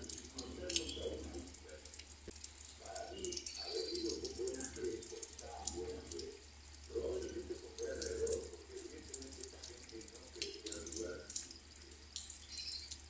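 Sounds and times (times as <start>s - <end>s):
low steady rumble: 0.0s - 13.0s
raindrops pattering: 0.0s - 13.0s.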